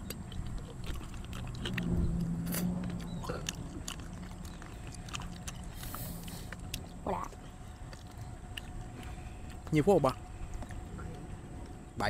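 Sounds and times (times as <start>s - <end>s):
chewing mouth sounds: 0.0s - 11.8s
low steady hum: 0.0s - 12.0s.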